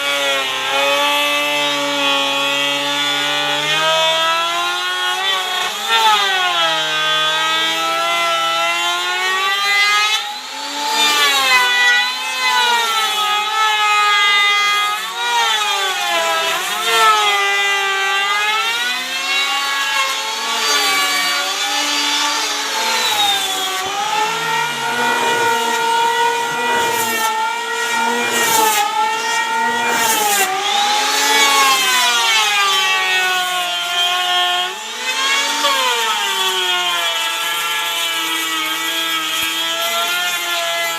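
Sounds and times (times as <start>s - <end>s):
power tool cutting wood: 0.0s - 40.9s.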